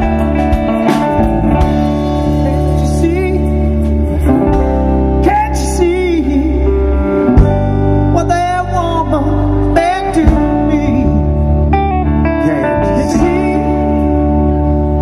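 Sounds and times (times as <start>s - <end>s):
bending melody line: 0.0s - 15.0s
live rock band playing: 0.0s - 15.0s
person singing: 2.2s - 15.0s.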